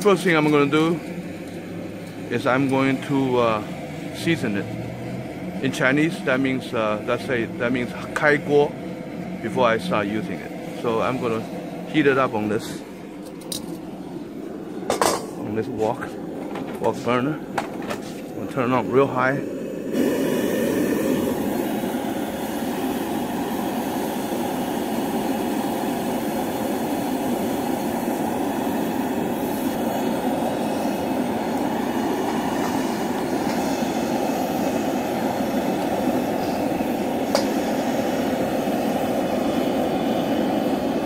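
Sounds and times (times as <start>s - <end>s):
gas burner roaring: 0.0s - 41.0s.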